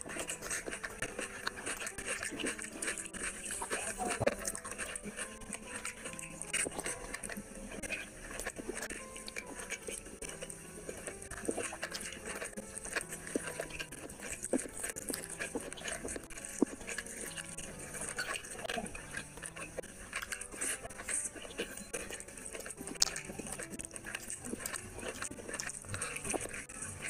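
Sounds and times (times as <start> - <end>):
fingers squelching rice: 0.0 - 27.0
wet chewing and lip-smacking: 0.0 - 27.0.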